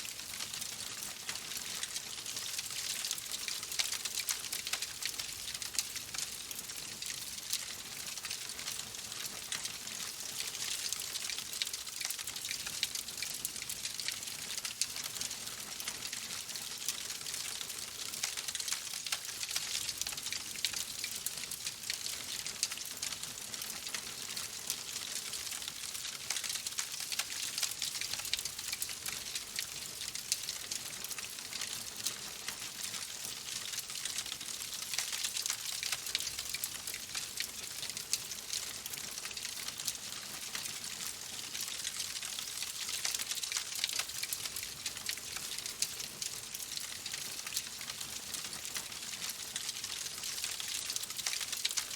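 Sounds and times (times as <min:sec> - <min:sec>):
wood fire crackling: 0:00.2 - 0:14.7, 0:22.6 - 0:33.0, 0:33.6 - 0:51.9.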